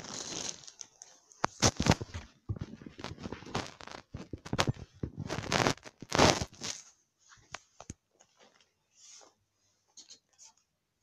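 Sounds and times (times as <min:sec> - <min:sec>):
rustling and scraping handling noise: 0:00.0 - 0:10.7.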